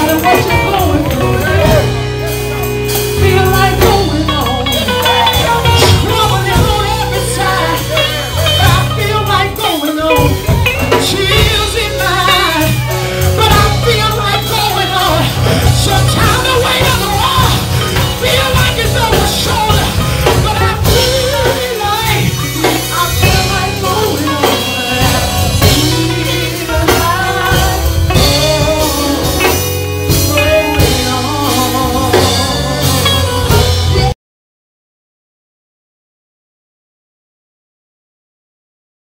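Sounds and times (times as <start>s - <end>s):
gospel singing over a band: 0.0s - 34.2s.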